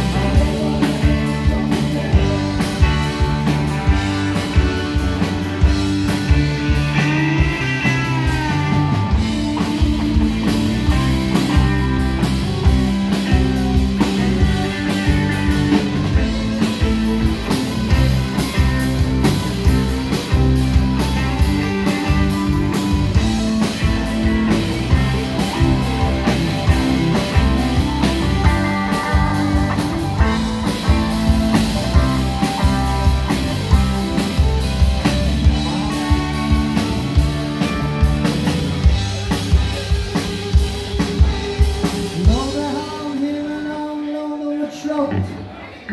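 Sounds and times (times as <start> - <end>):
bent sliding guitar lead: 0.0 - 42.6
blues rock band playing: 0.0 - 45.9.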